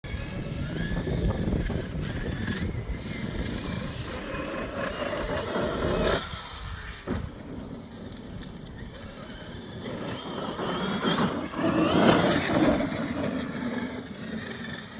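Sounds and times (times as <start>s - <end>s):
electric motor whining: 0.1s - 14.9s.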